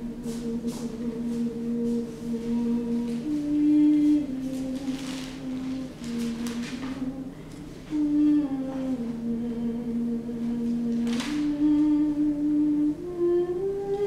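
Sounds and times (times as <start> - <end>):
person humming a slow tune: 0.0 - 14.0.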